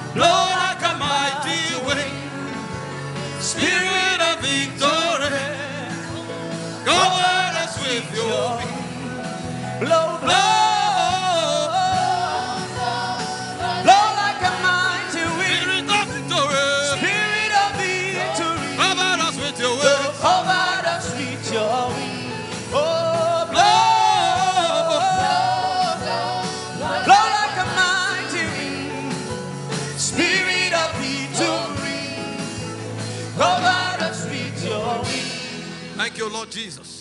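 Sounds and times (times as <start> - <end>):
person singing: 0.0 - 35.8.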